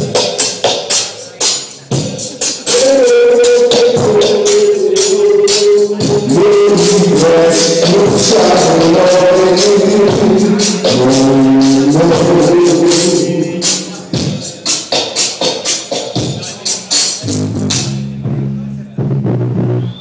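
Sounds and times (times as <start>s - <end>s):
dub music through sound system: 0.0s - 20.0s.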